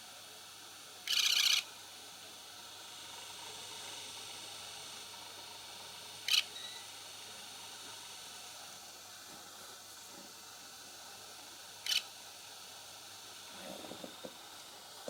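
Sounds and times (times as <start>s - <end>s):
electric fan motor hissing: 0.0s - 15.0s.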